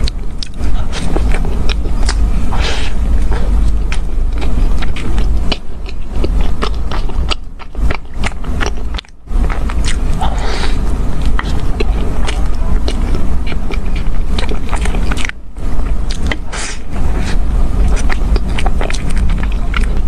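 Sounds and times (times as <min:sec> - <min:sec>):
biting and chewing bun: 0:00.0 - 0:20.0
low hum: 0:00.0 - 0:20.0.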